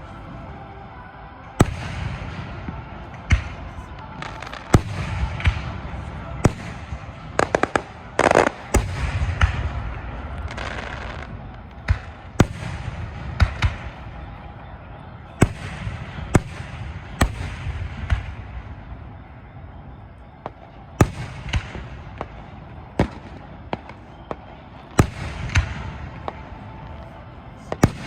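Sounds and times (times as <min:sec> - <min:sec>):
fireworks cracking and banging: 0:00.0 - 0:28.0
fireworks crackling: 0:00.0 - 0:28.0.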